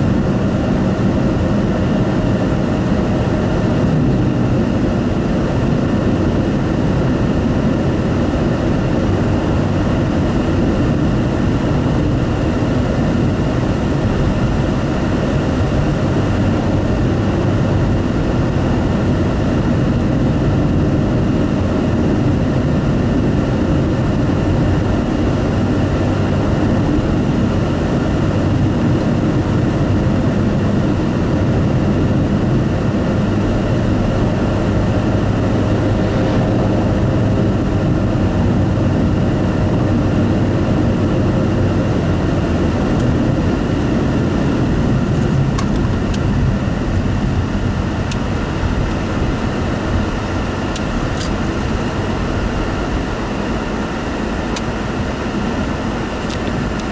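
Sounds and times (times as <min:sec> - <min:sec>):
car road noise inside cabin: 0:00.0 - 0:56.9.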